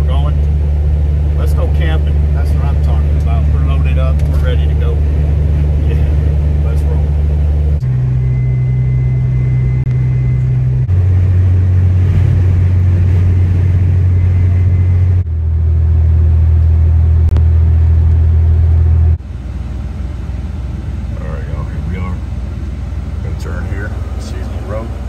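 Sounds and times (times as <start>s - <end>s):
vehicle engine and road drone: 0.0s - 25.0s.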